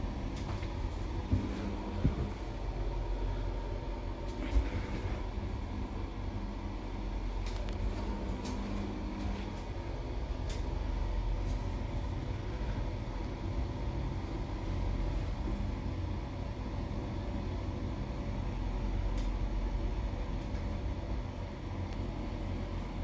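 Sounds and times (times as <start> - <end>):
lift rumble and hum: 0.0 - 23.0.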